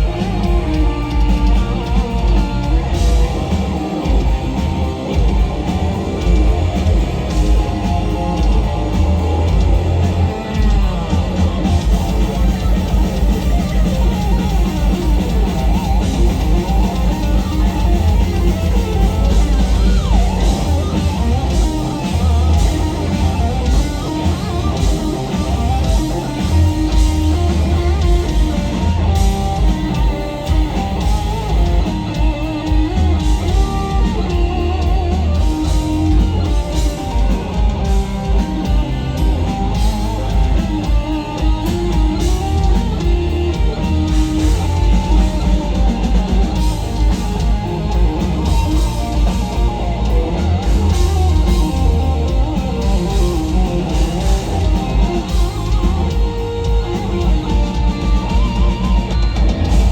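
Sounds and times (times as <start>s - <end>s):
drum kit: 0.0s - 59.9s
lead electric guitar: 0.0s - 59.9s.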